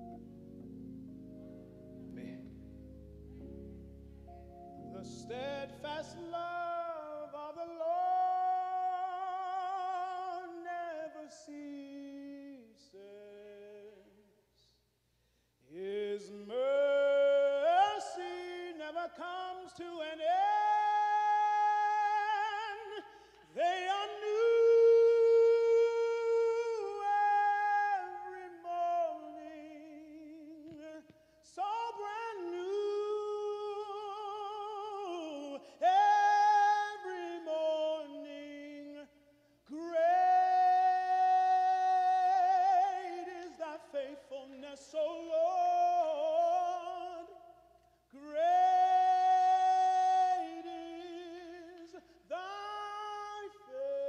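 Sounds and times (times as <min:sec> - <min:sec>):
man singing: 0:04.8 - 0:14.7, 0:15.6 - 0:54.0.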